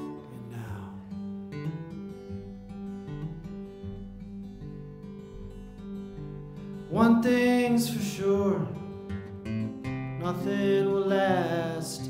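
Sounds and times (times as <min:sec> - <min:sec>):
acoustic guitar strummed and picked: 0:00.0 - 0:12.0.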